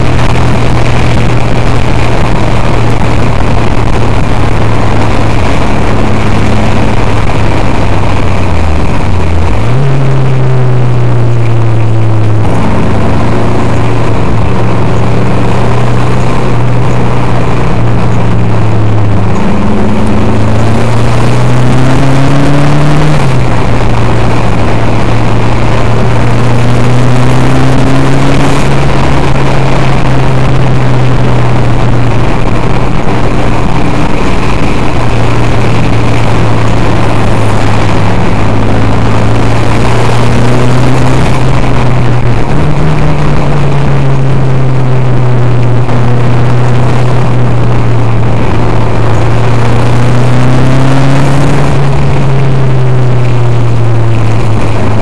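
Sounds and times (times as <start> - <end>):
racing car engine droning: 0.0 - 55.0.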